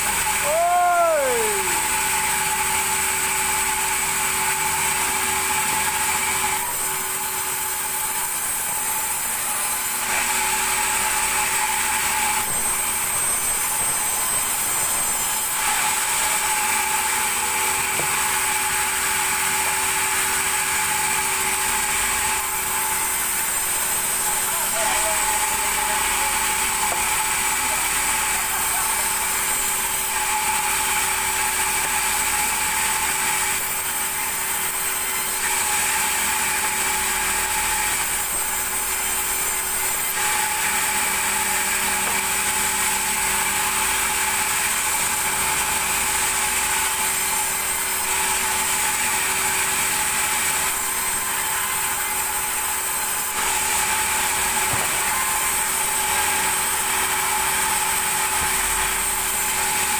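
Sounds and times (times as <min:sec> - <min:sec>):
band saw cutting timber: 0:00.0 - 0:59.9.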